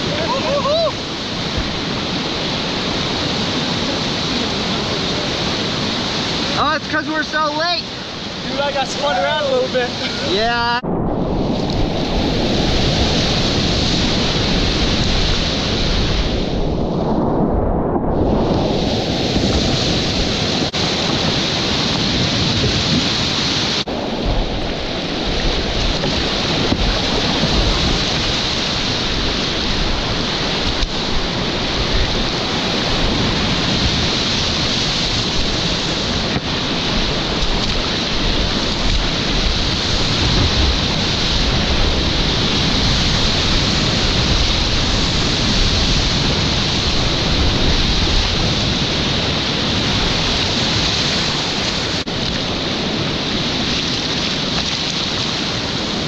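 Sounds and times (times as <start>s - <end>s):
rush of churning whitewater: 0.0s - 17.1s, 18.2s - 56.0s.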